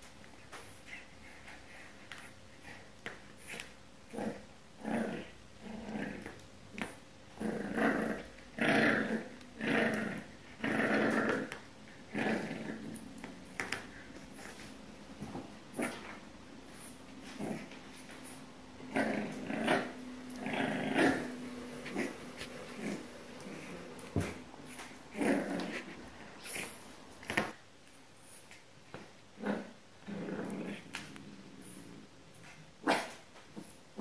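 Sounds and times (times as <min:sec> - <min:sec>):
puppy growling: 0:00.8 - 0:27.6, 0:29.4 - 0:34.0.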